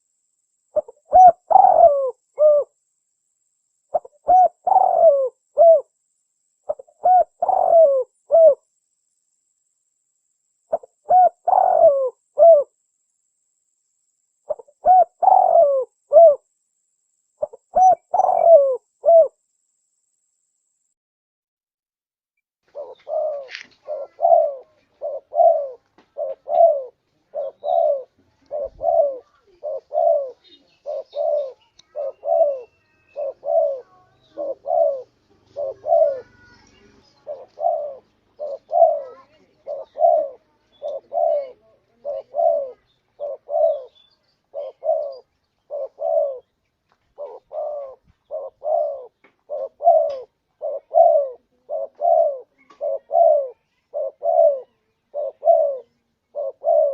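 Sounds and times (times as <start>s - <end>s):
dove cooing: 0.7s - 2.8s, 3.9s - 6.0s, 6.7s - 8.7s, 10.7s - 12.8s, 14.5s - 16.4s, 17.4s - 19.4s, 22.7s - 56.9s.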